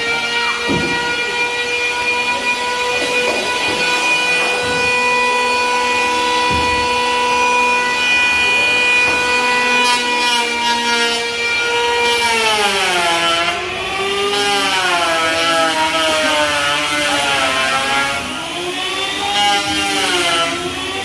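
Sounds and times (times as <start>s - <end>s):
power tool whining: 0.0s - 21.0s.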